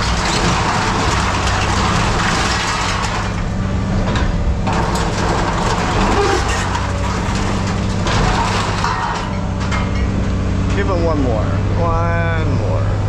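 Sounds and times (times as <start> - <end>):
scrap metal crunching and grinding: 0.0 - 11.8
heavy machine engine running: 0.0 - 13.0.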